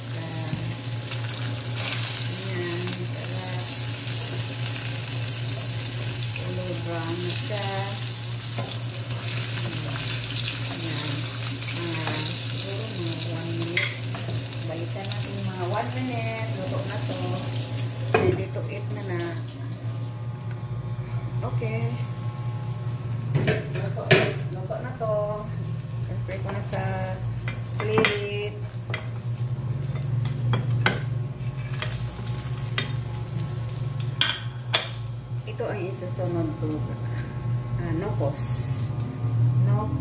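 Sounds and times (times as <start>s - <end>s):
fish frying in oil: 0.0s - 20.0s, 21.6s - 36.7s.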